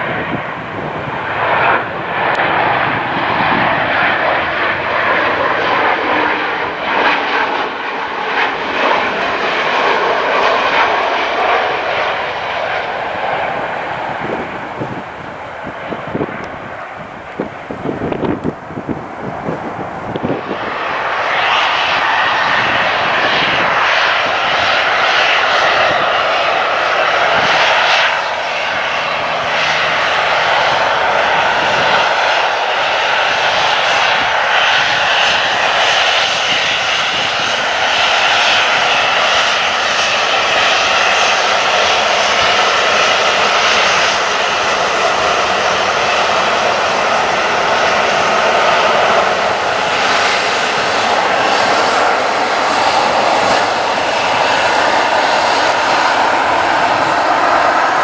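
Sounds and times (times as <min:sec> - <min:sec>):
airliner engines running: 0:00.0 - 0:58.0.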